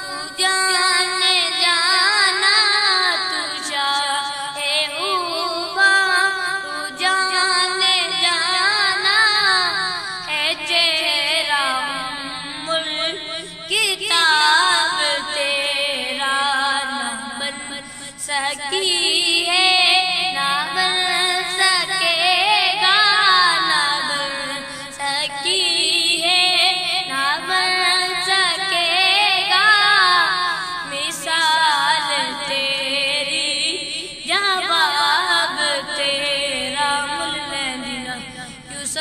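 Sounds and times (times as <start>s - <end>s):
boy singing: 0.0s - 39.0s.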